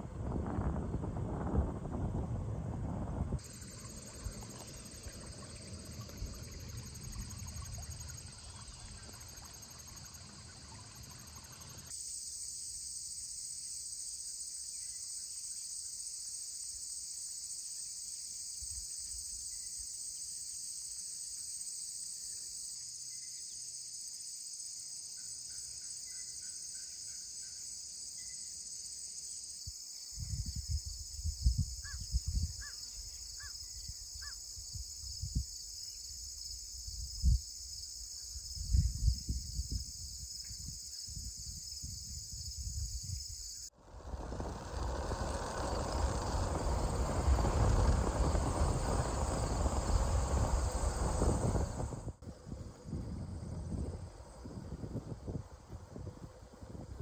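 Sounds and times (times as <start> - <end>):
insects trilling: 3.4 - 57.0.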